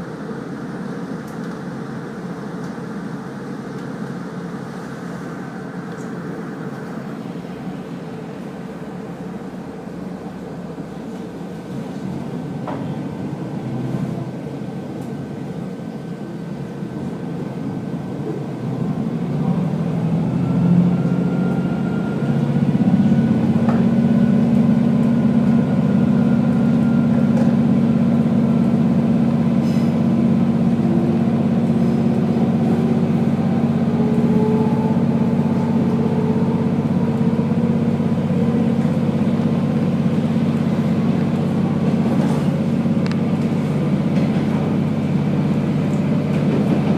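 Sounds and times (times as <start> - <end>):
diesel railcar engine droning: 0.0 - 46.9.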